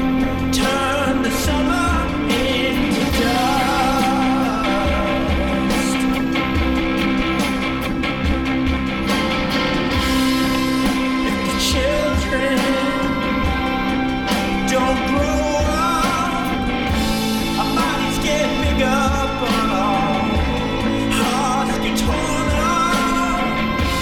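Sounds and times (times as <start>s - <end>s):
song with singing and guitar: 0.0s - 24.0s
steady drum beat: 0.0s - 24.0s.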